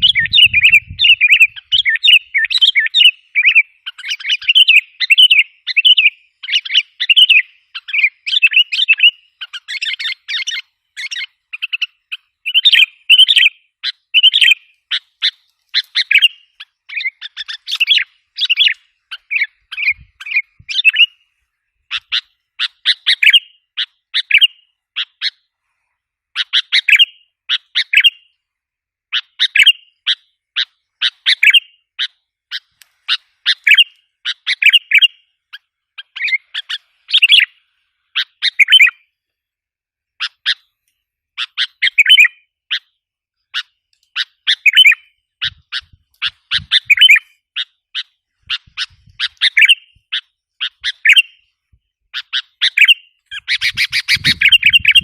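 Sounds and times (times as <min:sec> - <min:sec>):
bird chattering calls: 0:00.0 - 0:21.2, 0:21.9 - 0:25.4, 0:29.1 - 0:39.0, 0:41.4 - 0:42.9, 0:43.5 - 0:51.4, 0:52.1 - 0:55.0.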